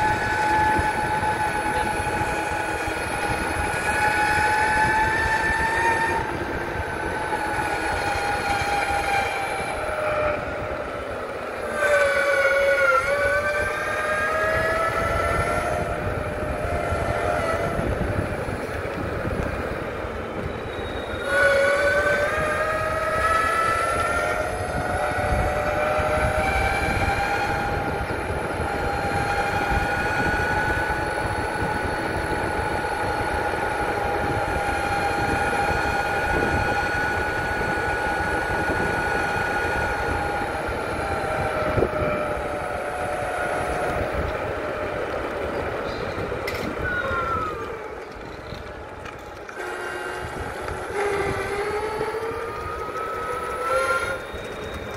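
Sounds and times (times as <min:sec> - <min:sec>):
electric motors whining: 0:00.0 - 0:54.9
wind: 0:00.0 - 0:54.9.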